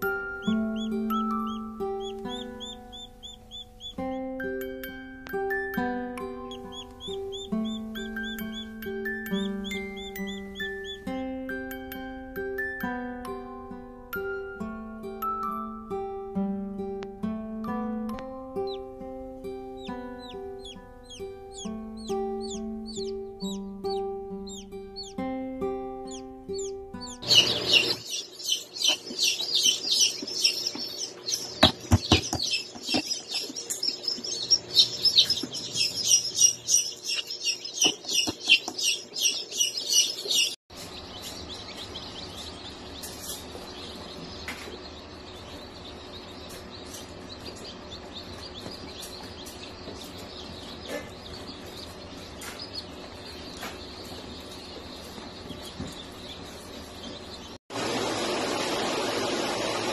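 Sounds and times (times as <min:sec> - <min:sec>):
chicks peeping: 0:00.0 - 0:11.2, 0:18.1 - 0:25.2, 0:26.0 - 0:57.6.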